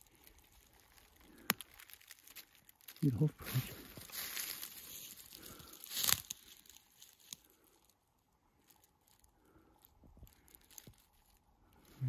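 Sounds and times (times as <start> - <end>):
dry leaves crunching underfoot: 0.0 - 8.0, 8.6 - 12.0.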